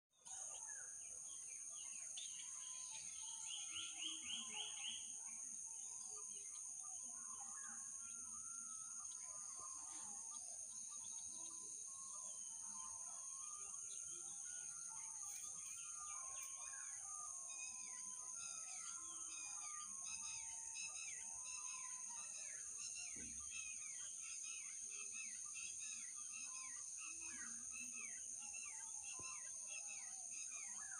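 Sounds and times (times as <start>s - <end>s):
birds chirping and whistling: 5.8s - 30.9s.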